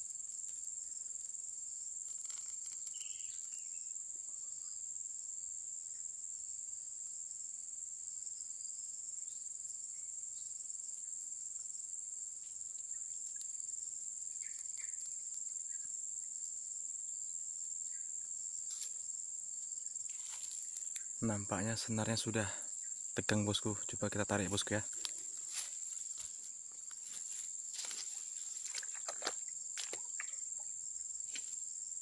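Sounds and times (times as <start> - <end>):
insects singing: 0.0 - 6.8, 8.3 - 32.0.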